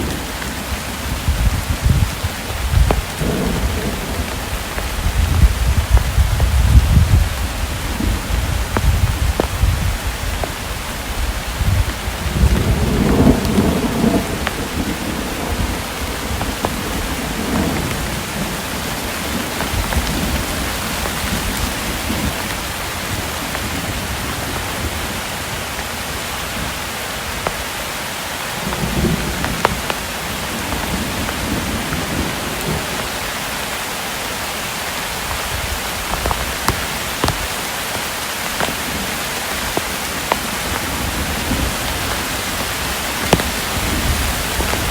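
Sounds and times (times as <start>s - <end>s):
thunder rumbling: 0.0s - 27.8s, 28.5s - 33.6s, 34.5s - 44.9s
steady rain falling: 0.0s - 44.9s.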